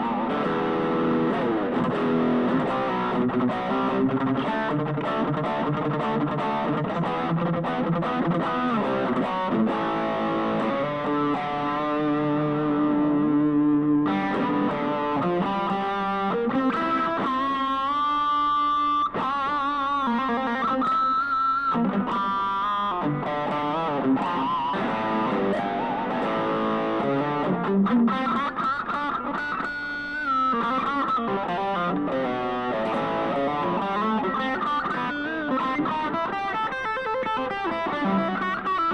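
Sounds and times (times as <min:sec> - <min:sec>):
electric guitar through an amp: 0:00.0 - 0:38.9.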